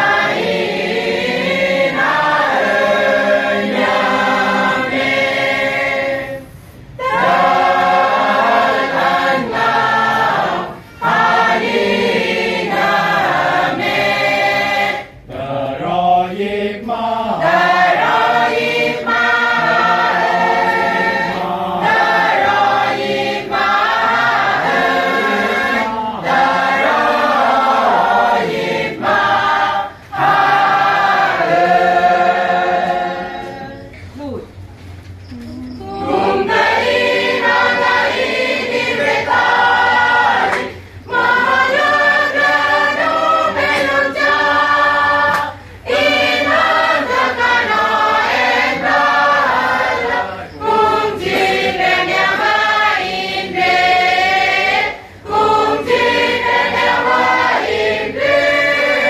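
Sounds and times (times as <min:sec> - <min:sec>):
women's choir singing: 0:00.0 - 0:34.0, 0:35.8 - 0:59.0.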